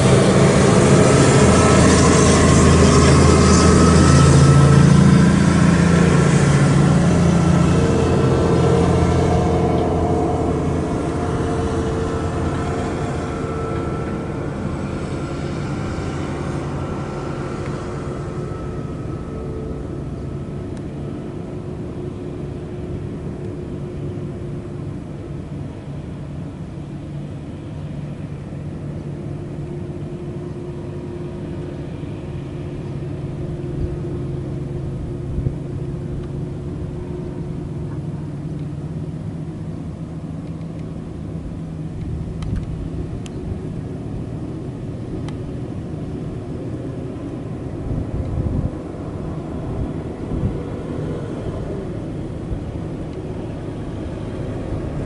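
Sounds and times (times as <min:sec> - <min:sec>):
diesel truck engines droning: 0:00.0 - 0:55.0.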